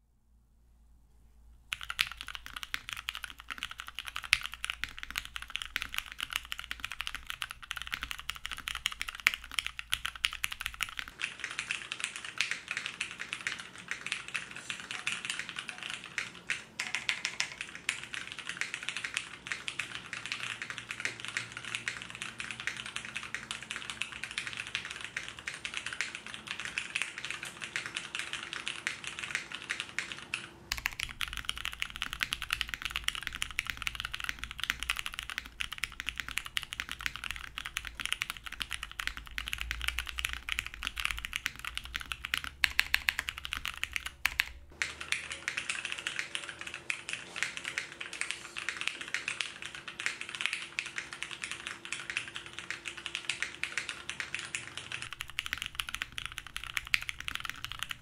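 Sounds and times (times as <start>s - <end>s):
low background hum: 0.0s - 58.0s
fast typing on mechanical keyboard: 1.7s - 58.0s.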